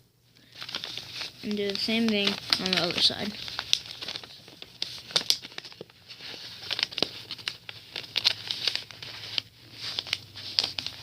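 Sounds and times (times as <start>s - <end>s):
paper rustling and crinkling: 0.4s - 11.0s
paper fold clicks: 0.6s - 11.0s.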